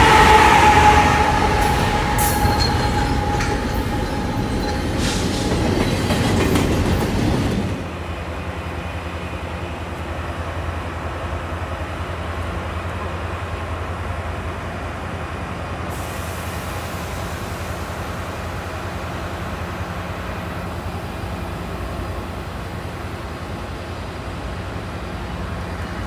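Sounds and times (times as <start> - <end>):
idling train drone: 0.0 - 26.0.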